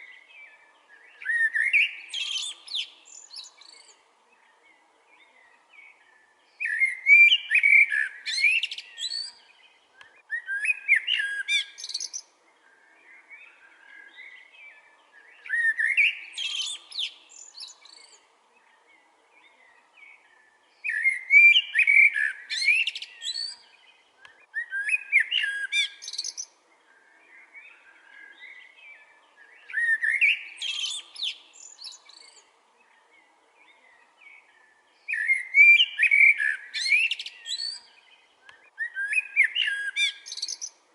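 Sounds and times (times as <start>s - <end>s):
soft bird calls: 0.0s - 40.9s
songbird warbling song: 0.0s - 40.9s.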